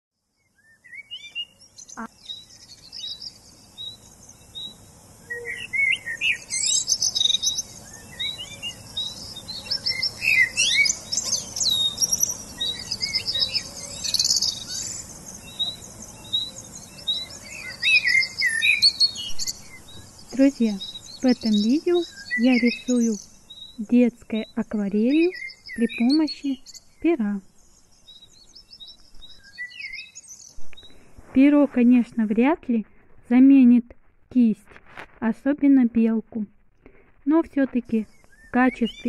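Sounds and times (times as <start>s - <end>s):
songbirds chirping and singing: 0.3s - 33.0s, 37.3s - 39.0s.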